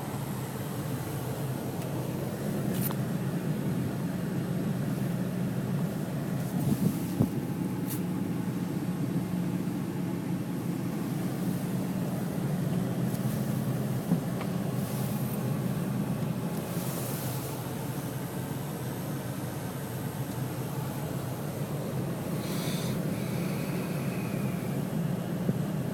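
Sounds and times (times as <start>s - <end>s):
vehicle rumble: 0.0s - 25.9s.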